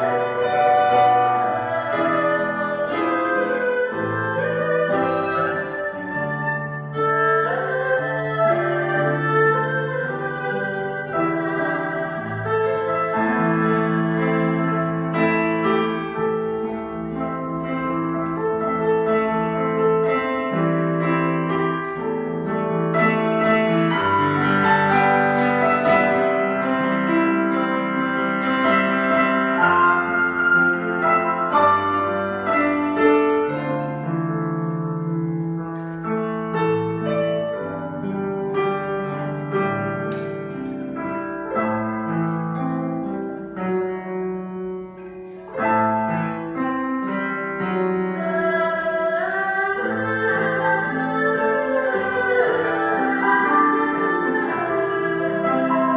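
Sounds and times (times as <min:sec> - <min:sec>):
slow piano music: 0:00.0 - 0:55.9.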